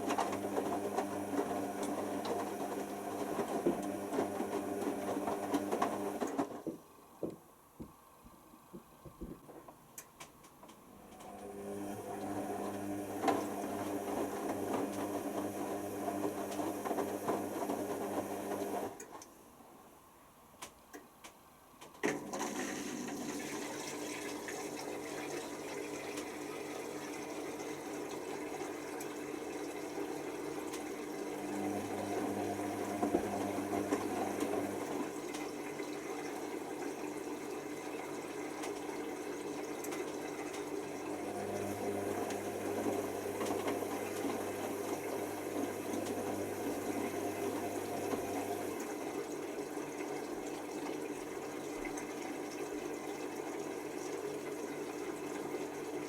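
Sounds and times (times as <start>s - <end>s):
washing machine drum motor: 0.0s - 6.8s, 11.1s - 19.0s, 22.1s - 53.6s.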